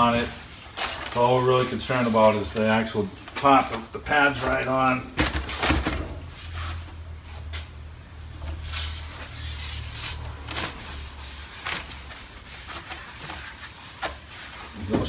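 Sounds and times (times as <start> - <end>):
paper and rag rustling: 0.0 - 7.9, 8.6 - 15.0.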